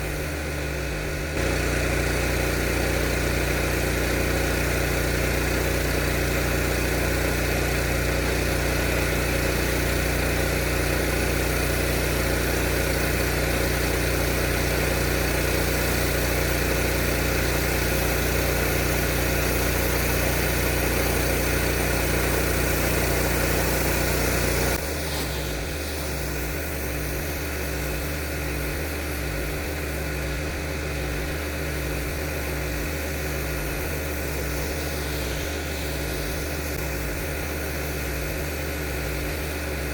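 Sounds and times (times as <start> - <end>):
pressure washer engine running: 0.0 - 39.9
pressure washer hiss: 0.0 - 39.9.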